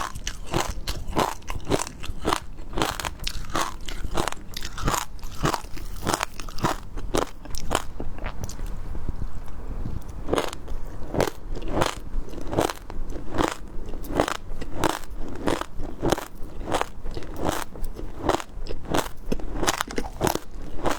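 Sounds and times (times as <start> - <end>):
crunchy chewing of seafood: 0.0 - 20.9.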